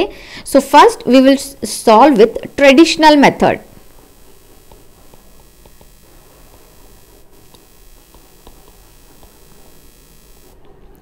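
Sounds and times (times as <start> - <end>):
faint hiss: 0.0 - 11.0
stylus ticking on pen tablet: 0.6 - 10.6.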